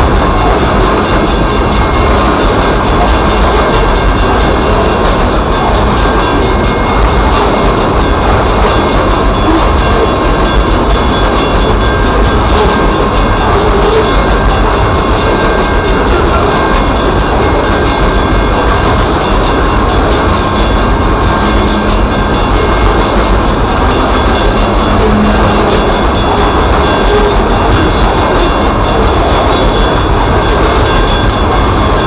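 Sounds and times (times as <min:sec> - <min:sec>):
crossing signal bell ringing: 0:00.0 - 0:32.0
train wheels rumbling on rail: 0:00.0 - 0:32.0.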